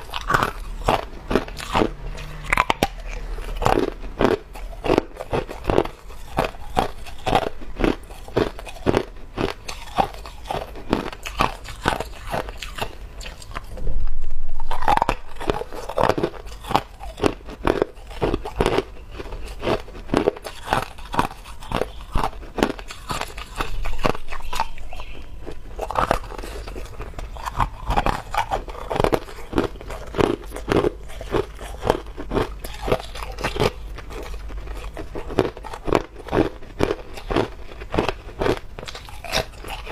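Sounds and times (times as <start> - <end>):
ice being chewed: 0.0 - 13.8, 14.6 - 39.9.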